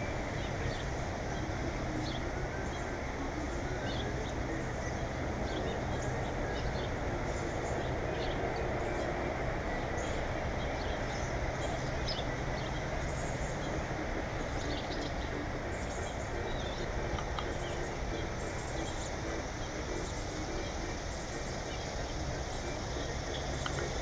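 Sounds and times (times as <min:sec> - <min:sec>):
small birds chirping: 0:00.0 - 0:24.0
steady background rumble: 0:00.0 - 0:24.0.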